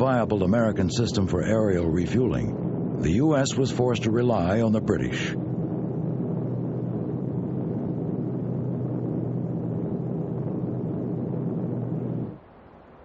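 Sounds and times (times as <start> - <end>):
propeller aircraft engines droning: 0.0 - 12.4.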